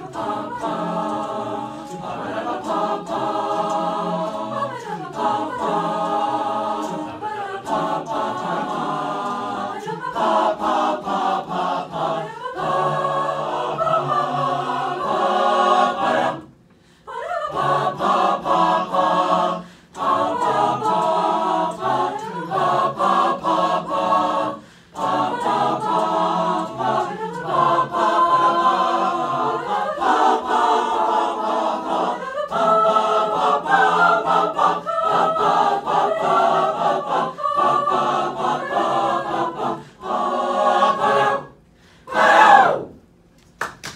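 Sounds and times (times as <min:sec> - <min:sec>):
choir singing a cappella: 0:00.0 - 0:43.1.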